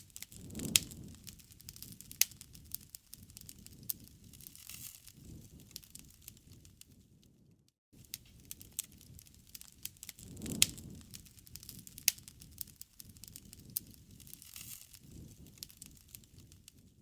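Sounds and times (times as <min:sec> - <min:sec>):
fire popping and snapping: 0:00.0 - 0:17.0
wood fire crackling: 0:00.0 - 0:17.0.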